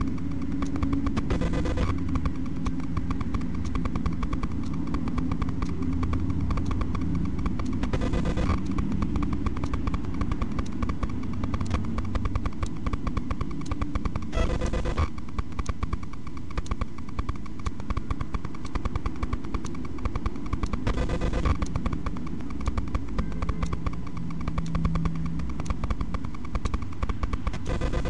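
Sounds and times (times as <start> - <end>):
vehicle engines running: 0.0 - 28.0.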